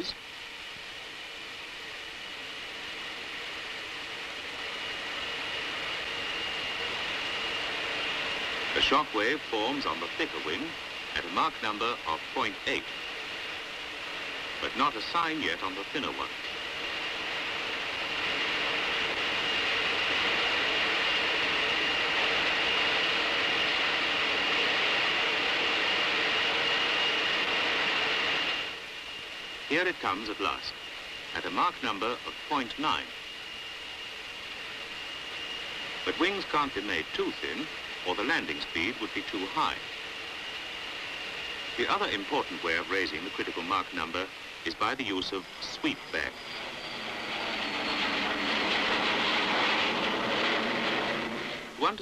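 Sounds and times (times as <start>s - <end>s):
thin high whine: 0.0s - 52.0s.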